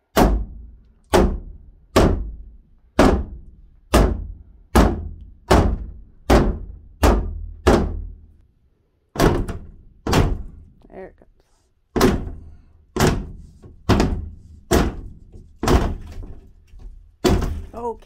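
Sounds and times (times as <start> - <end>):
hammer blows on wooden stud: 0.1 - 8.2, 9.2 - 10.6, 11.9 - 16.4, 17.2 - 17.8.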